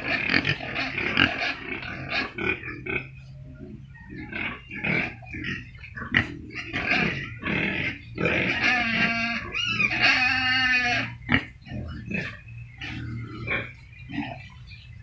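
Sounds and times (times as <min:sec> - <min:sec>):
pig calls: 0:00.0 - 0:15.0
pigs grunting and snuffling: 0:00.0 - 0:15.0.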